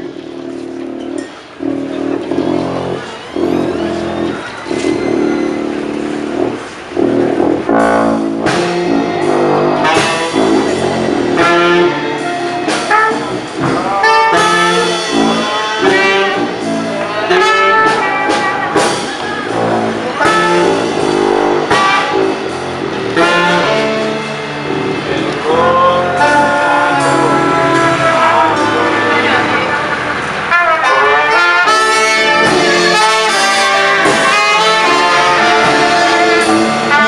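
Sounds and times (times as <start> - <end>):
drum kit with cymbals: 0.0 - 37.0
saxophone melody: 0.0 - 37.0
sousaphone bass line: 0.0 - 37.0.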